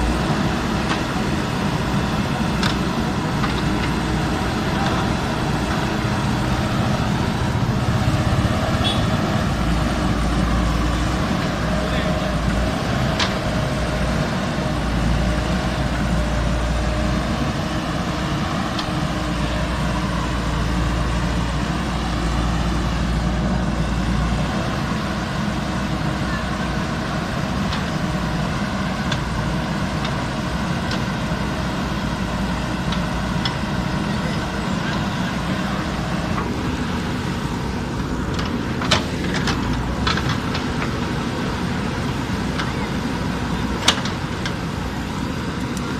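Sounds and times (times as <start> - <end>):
diesel engine under load: 0.0 - 45.9.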